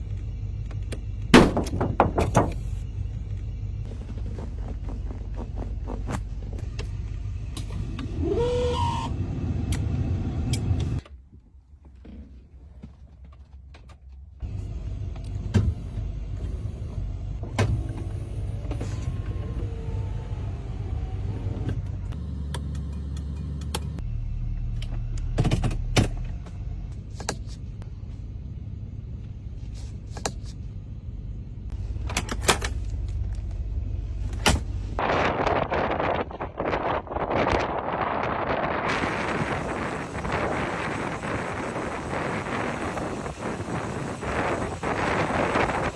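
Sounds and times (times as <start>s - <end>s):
car engine rumbling: 0.0s - 45.9s.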